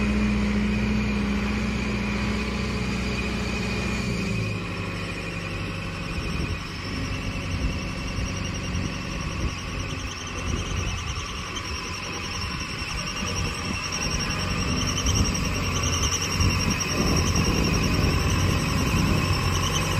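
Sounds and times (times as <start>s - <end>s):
high-pitched whine: 0.0s - 19.9s
tractor diesel engine running: 0.0s - 19.9s.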